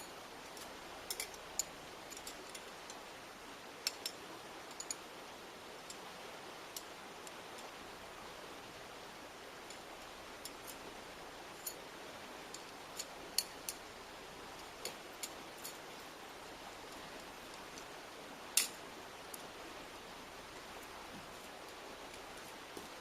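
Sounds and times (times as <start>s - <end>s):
fire background hiss: 0.0s - 23.0s.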